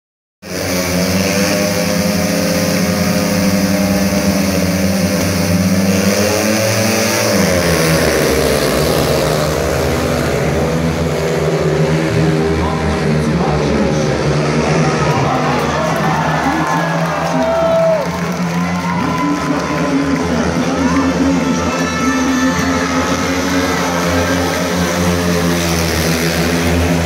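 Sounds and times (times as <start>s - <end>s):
motorcycle engines revving hard: 0.4s - 27.0s.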